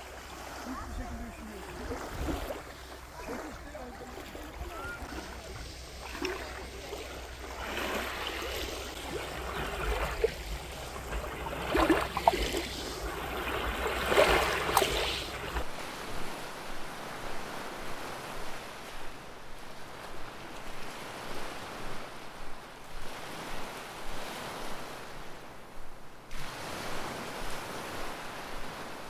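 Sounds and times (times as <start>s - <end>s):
waves lapping on gravelly shore: 0.0s - 25.6s, 26.2s - 29.0s.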